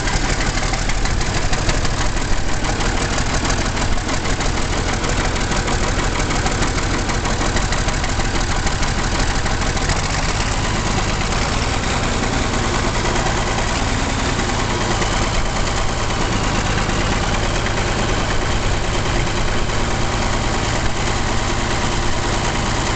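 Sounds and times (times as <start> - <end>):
diesel tractor engine idling: 0.0 - 22.9.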